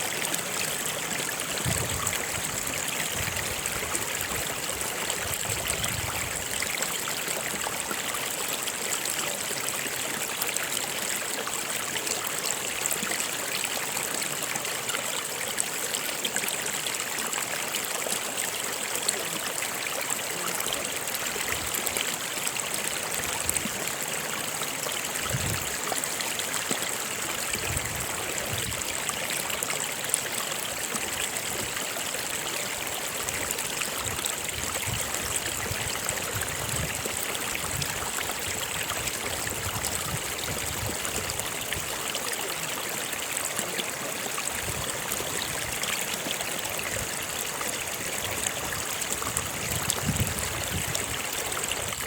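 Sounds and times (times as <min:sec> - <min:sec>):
stream water trickling and splashing: 0:00.0 - 0:52.0.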